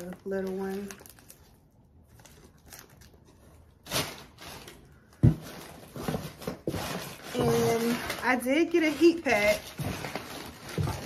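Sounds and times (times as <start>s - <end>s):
paper bag rustling and crinkling: 0.0s - 11.0s.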